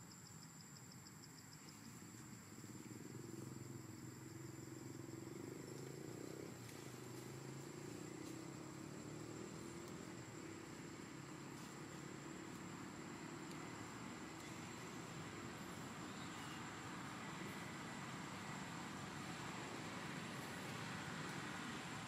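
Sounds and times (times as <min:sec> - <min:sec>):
faint low engine hum: 0:00.0 - 0:22.0
rapid insect chirping: 0:00.0 - 0:22.0.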